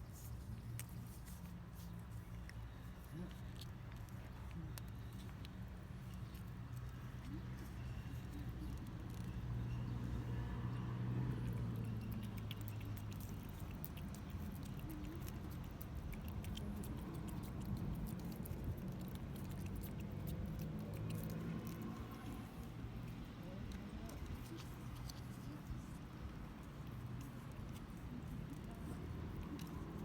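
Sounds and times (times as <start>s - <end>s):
cat crunching food: 0.2s - 10.6s, 11.2s - 30.0s.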